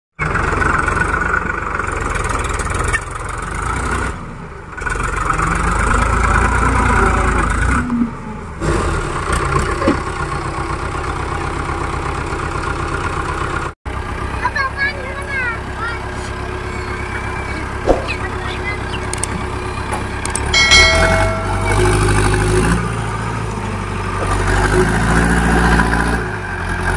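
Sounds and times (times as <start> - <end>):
tractor diesel engine under load: 0.2 - 26.9.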